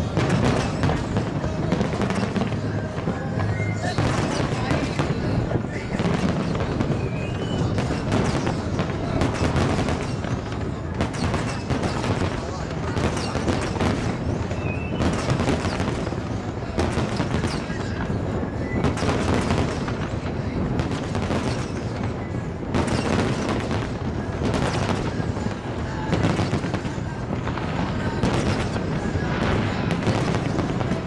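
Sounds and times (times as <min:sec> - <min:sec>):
fireworks bangs and booms: 0:00.0 - 0:31.0
fireworks crackling: 0:00.0 - 0:31.0.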